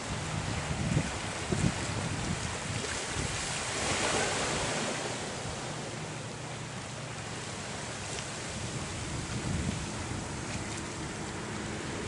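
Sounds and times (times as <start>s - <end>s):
wind and small waves: 0.0s - 12.0s.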